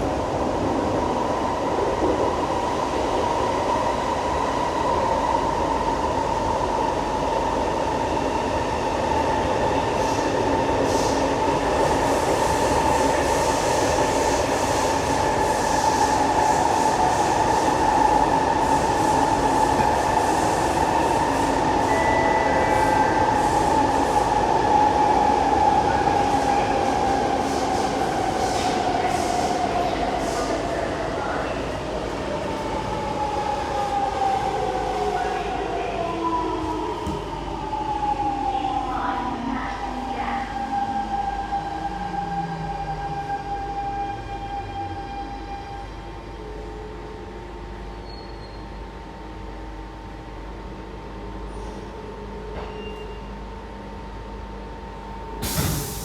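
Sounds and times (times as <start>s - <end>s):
train wheel and running noise: 0.0s - 56.0s.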